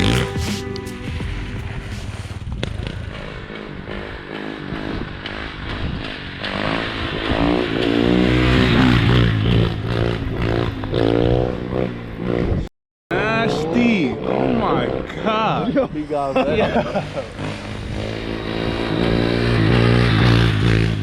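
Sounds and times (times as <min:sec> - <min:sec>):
car engine revving: 0:00.0 - 0:15.8, 0:16.7 - 0:21.0.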